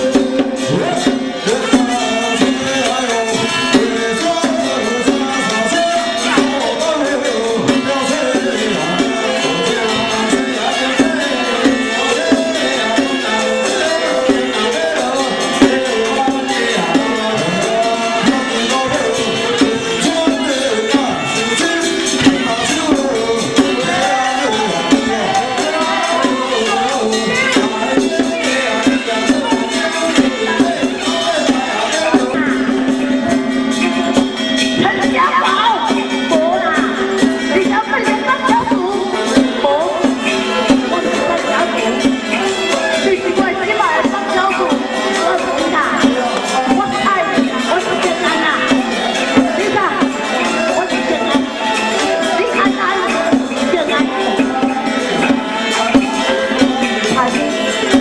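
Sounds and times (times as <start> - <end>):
rattling percussion: 0.0 - 58.0
sharp percussion strikes: 0.0 - 58.0
wavering melody: 0.0 - 58.0.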